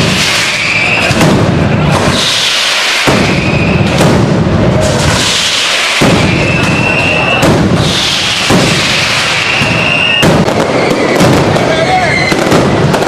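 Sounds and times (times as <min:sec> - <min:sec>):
faint rising firework whistle: 0:00.0 - 0:04.0, 0:04.8 - 0:12.7
firecrackers crackling: 0:00.0 - 0:13.0
firework bangs: 0:00.0 - 0:13.0.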